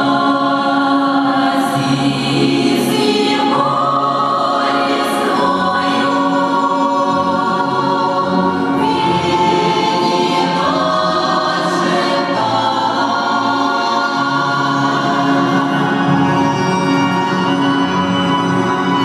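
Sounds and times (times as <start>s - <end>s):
choir singing long held notes: 0.0s - 19.0s.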